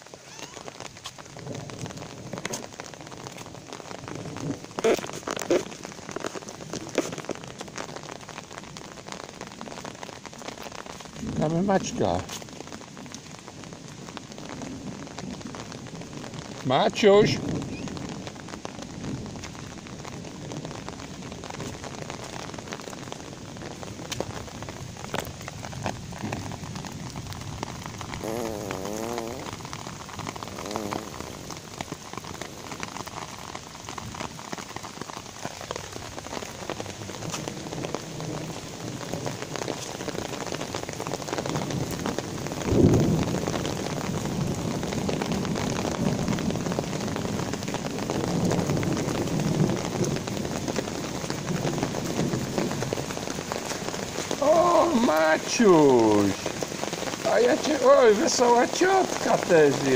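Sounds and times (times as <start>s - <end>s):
rain falling on paving: 0.0s - 59.9s
rain splashing into puddle: 0.0s - 59.9s.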